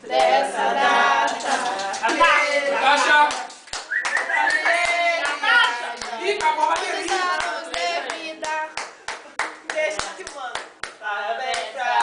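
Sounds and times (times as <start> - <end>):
group singing: 0.0 - 3.6, 4.2 - 10.2, 10.9 - 12.0
people clapping in time: 1.2 - 11.7.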